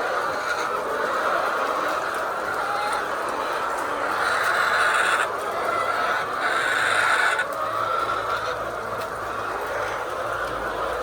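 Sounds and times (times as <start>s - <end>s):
hens clucking and cackling: 0.0s - 11.0s.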